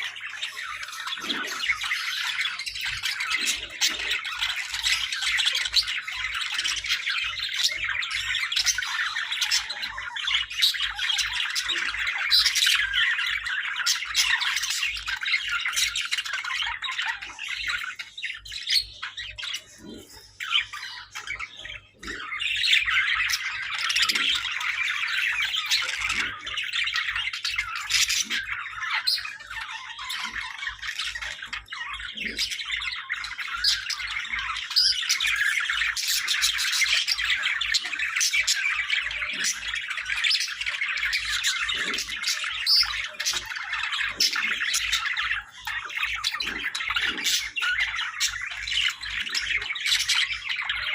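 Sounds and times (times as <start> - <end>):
budgerigars chattering and warbling: 0.0 - 50.9.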